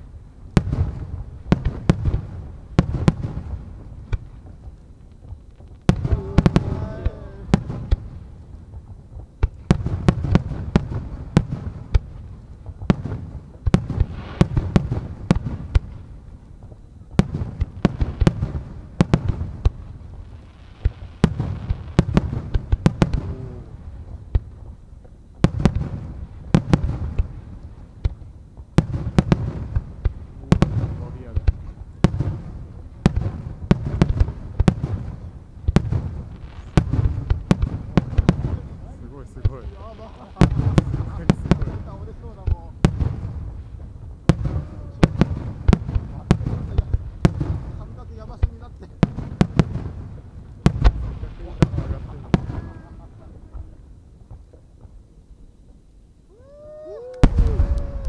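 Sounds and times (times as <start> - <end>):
fireworks booming: 0.0 - 58.0.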